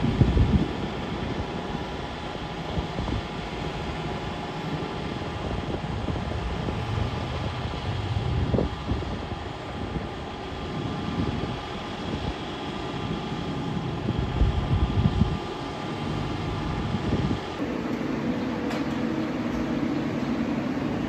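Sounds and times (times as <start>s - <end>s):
diesel engine low rumble: 0.0s - 21.0s
steady whine: 0.0s - 21.0s.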